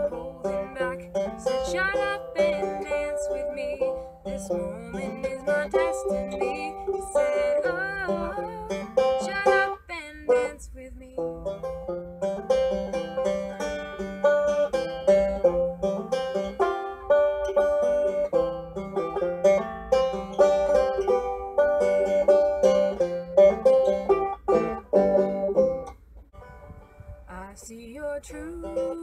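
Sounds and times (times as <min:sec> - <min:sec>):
banjo plucked notes: 0:00.0 - 0:27.3, 0:28.5 - 0:29.0.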